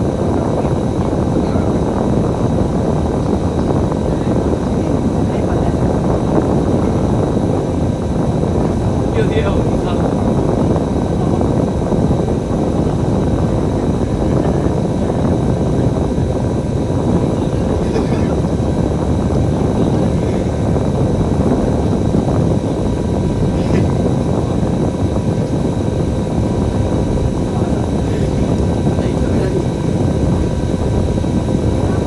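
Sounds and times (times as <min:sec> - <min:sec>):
bus engine and road noise: 0:00.0 - 0:32.0
faint constant whine: 0:00.0 - 0:32.0.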